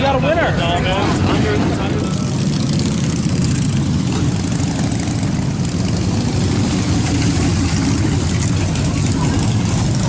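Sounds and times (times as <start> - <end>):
motorcycle engine idling: 1.8 - 10.0.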